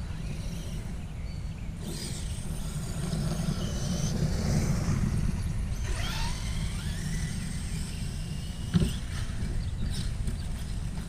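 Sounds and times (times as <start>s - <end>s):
electric motor whining: 0.0s - 11.0s
wind rumble on microphone: 0.0s - 11.0s.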